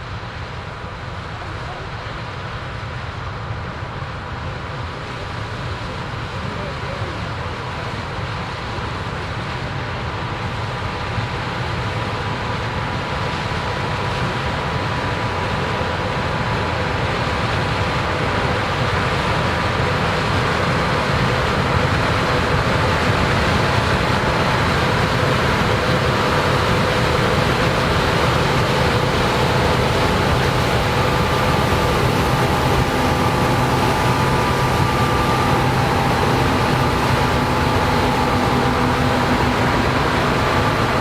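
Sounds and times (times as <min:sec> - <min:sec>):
combine harvester drone: 0:00.0 - 0:41.0.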